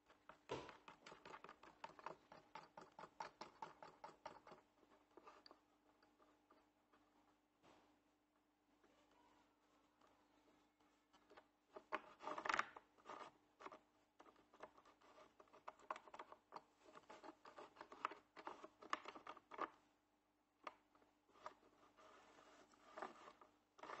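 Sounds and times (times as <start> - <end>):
wooden block scraping and tapping: 0.1 - 7.8, 10.9 - 19.8, 20.6 - 24.0.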